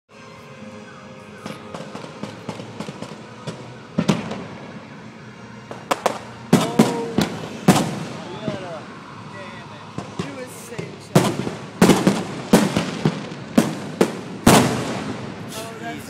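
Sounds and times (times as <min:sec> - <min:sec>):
fireworks cracking and booming: 0:01.3 - 0:16.0.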